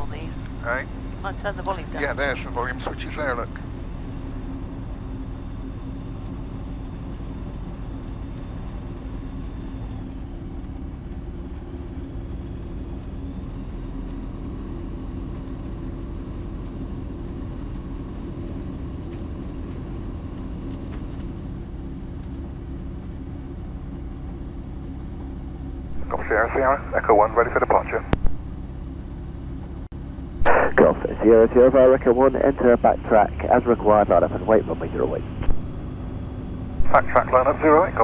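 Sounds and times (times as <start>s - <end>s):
light aircraft engine droning: 0.0s - 38.0s.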